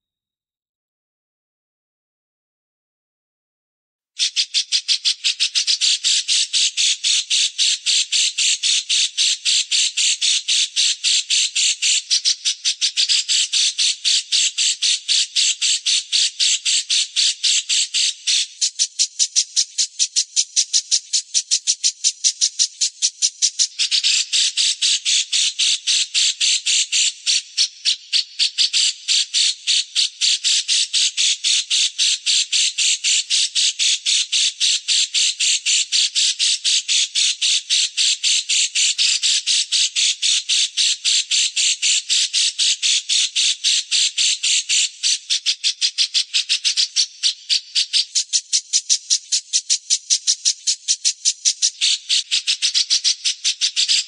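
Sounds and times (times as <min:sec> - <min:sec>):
songbird chattering: 0:04.2 - 0:54.0.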